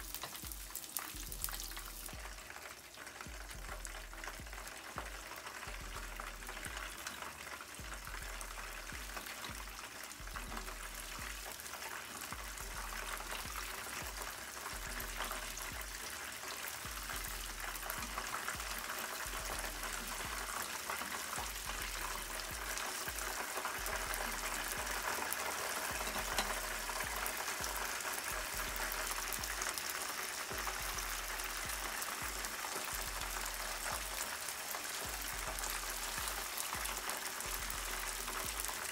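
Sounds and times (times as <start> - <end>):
oil sizzling and crackling: 0.0 - 38.9.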